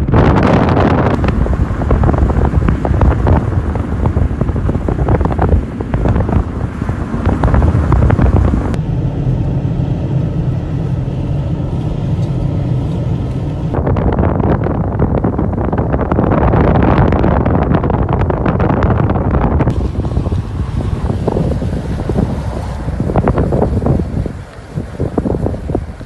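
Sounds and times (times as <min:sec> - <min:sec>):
in-cabin road and engine hum: 0:00.0 - 0:26.0
wind buffeting microphone: 0:00.0 - 0:26.0.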